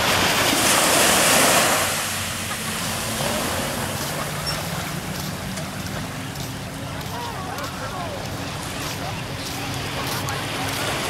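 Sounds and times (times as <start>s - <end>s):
wave washing up a beach: 0.0s - 11.0s.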